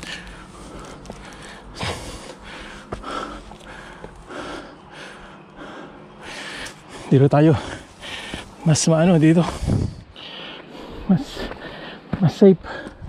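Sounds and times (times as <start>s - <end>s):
person panting hard: 0.0s - 8.6s, 9.3s - 13.0s.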